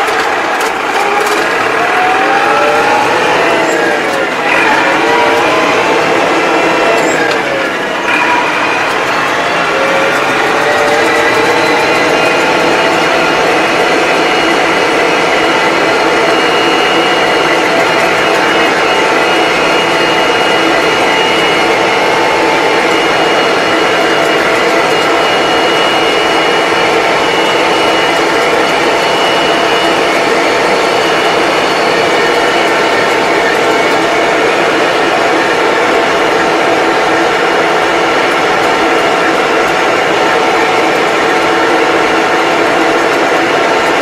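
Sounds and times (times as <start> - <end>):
steady high whine: 0.0 - 44.0
tractor engine running: 0.0 - 44.0.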